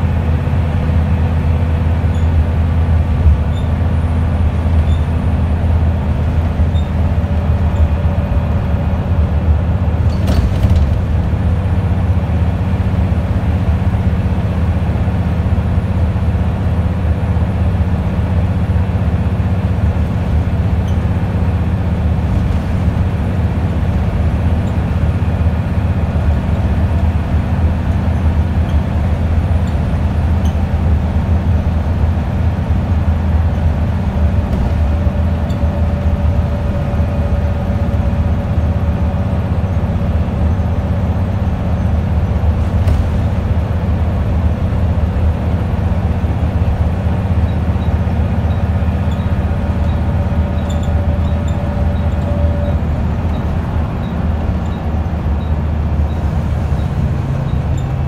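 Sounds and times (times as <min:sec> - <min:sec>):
bus diesel engine hum: 0:00.0 - 0:58.0
road noise: 0:00.0 - 0:58.0.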